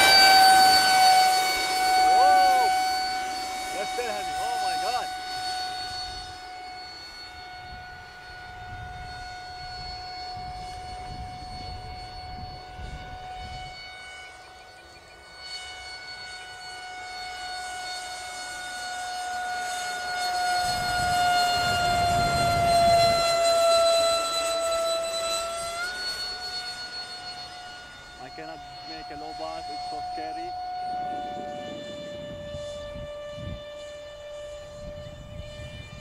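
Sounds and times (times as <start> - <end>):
electric ducted fans whining: 0.0 - 36.0.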